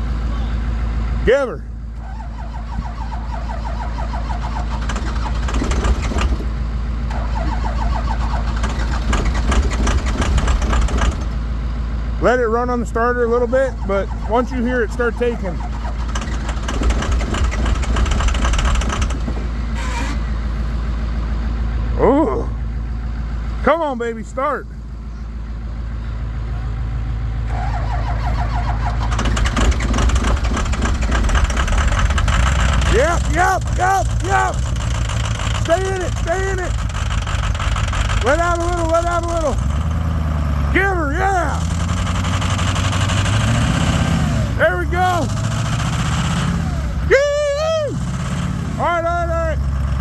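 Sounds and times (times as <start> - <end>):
diesel engine cranking on starter: 0.0 - 50.0
engine catching and firing unevenly: 0.0 - 50.0.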